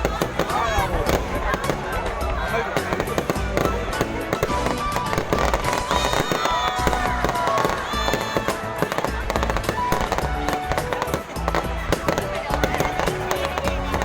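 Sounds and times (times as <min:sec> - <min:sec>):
fireworks crackling and banging: 0:00.0 - 0:14.0
music with bass beat: 0:00.0 - 0:14.0.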